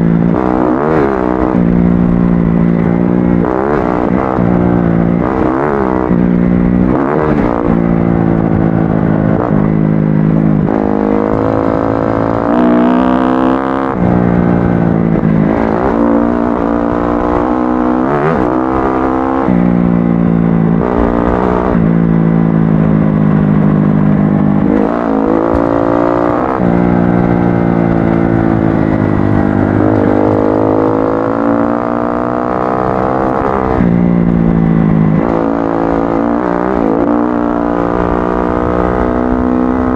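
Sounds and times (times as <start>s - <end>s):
off-road motorcycle engine revving: 0.0s - 39.9s.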